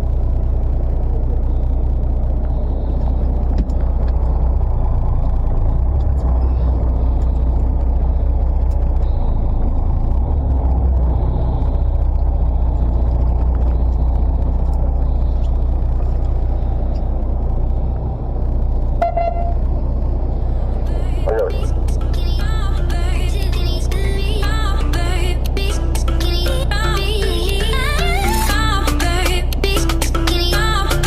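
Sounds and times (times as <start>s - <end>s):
boat engine rumbling: 0.0s - 31.0s.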